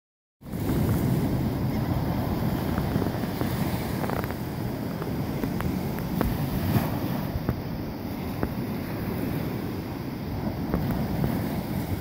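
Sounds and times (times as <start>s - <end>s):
ocean surf breaking: 0.4s - 12.0s
wind buffeting microphone: 0.4s - 12.0s.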